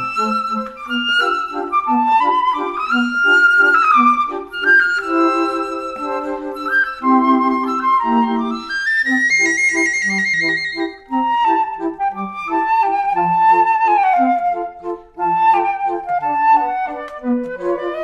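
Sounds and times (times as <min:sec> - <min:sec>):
flute-like melody: 0:00.0 - 0:18.0.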